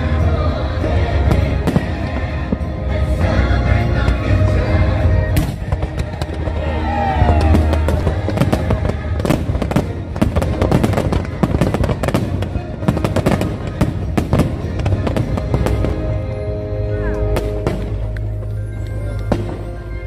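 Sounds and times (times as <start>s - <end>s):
fireworks bangs and crackles: 0.0s - 16.4s, 17.2s - 20.0s
music soundtrack: 0.0s - 20.0s.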